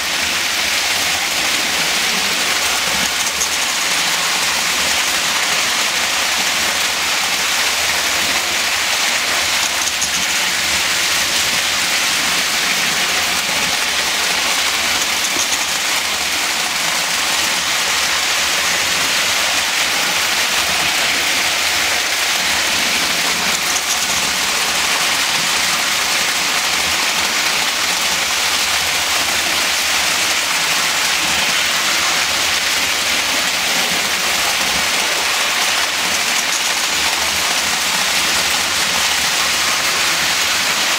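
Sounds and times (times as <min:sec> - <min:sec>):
model train wheels rolling on rails: 0:00.0 - 0:40.9.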